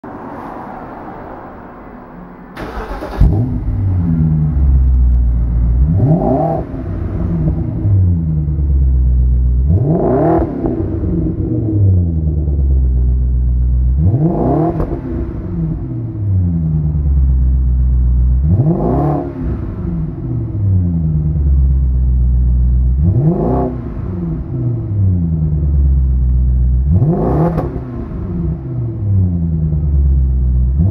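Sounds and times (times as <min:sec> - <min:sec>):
car engine starting and revving: 0:00.0 - 0:30.9.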